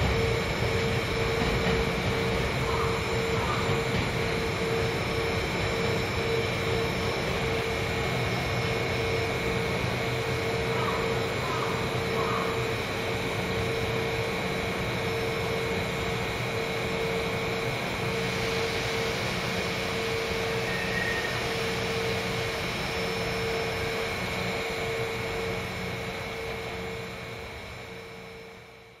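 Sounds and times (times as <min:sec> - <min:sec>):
faint high steady tones: 0:00.0 - 0:29.0
steady machine hum: 0:00.0 - 0:29.0.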